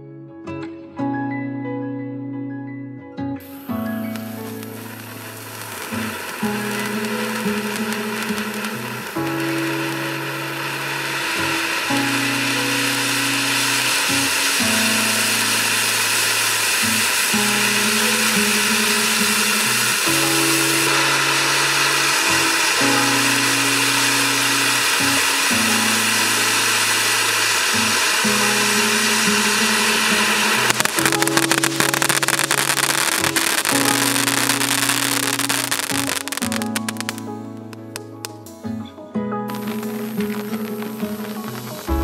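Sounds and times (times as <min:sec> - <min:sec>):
background music with low line: 0:00.0 - 0:42.0
firework fountain hissing: 0:03.4 - 0:38.5, 0:39.5 - 0:42.0.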